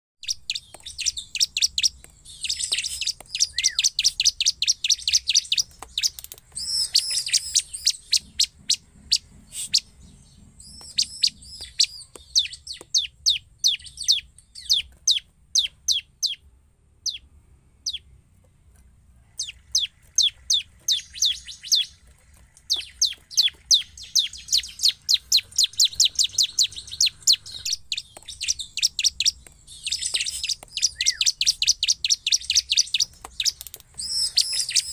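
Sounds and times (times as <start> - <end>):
bird singing rapid high notes: 0.2 - 18.1, 19.4 - 34.9.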